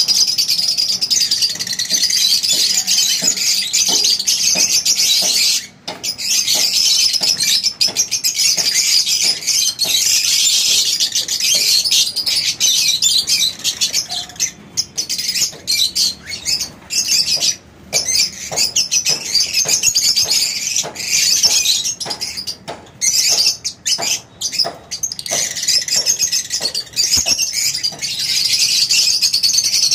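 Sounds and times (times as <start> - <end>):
lovebirds chirping: 0.0 - 29.9.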